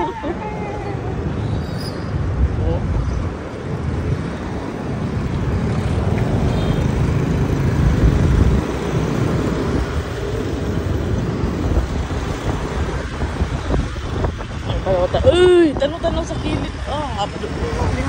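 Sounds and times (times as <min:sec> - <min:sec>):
vehicle road rumble: 0:00.0 - 0:18.0
wind rushing over microphone: 0:00.0 - 0:18.0.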